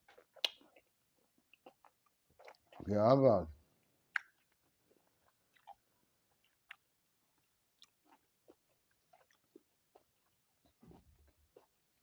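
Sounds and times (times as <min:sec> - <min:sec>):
person chewing fruit: 0:00.0 - 0:02.9, 0:03.8 - 0:12.0.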